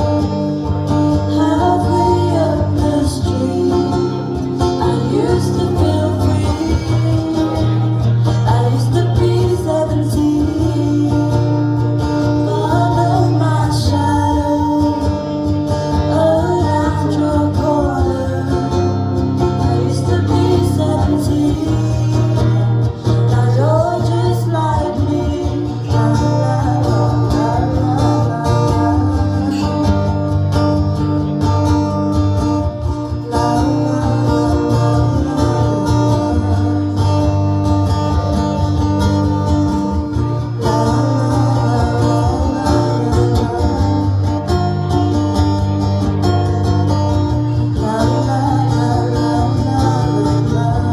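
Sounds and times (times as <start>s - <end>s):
acoustic guitar: 0.0s - 50.9s
person singing: 0.0s - 50.9s.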